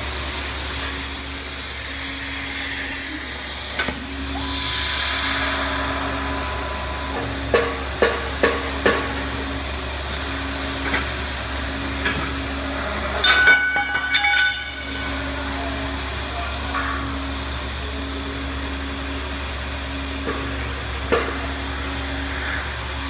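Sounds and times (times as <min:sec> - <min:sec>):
plasma torch cutting steel: 0:00.2 - 0:23.0.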